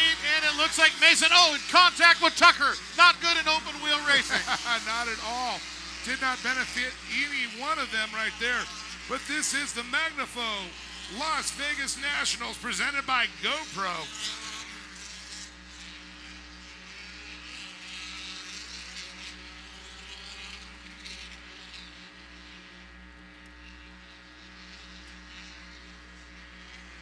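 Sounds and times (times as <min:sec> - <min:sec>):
racing buggy engines droning: 0:00.0 - 0:27.0.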